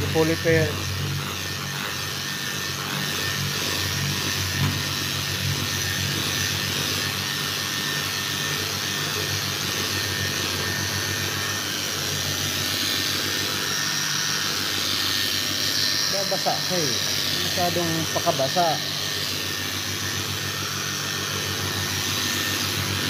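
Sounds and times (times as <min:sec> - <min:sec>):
electric polisher grinding: 0:00.0 - 0:23.0.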